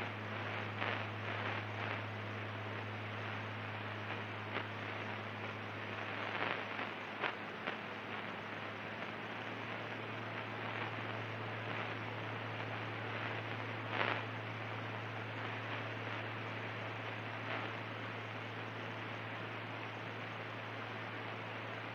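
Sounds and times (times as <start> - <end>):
radio crackles: 0.0 - 21.9.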